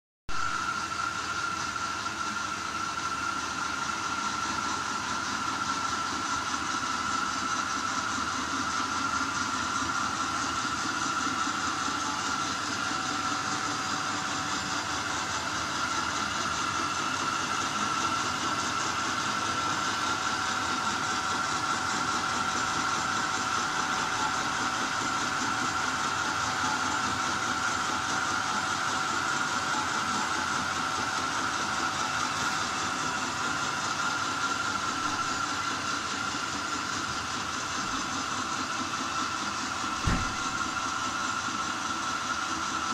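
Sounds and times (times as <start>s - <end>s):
milling machine whining: 0.3s - 42.9s.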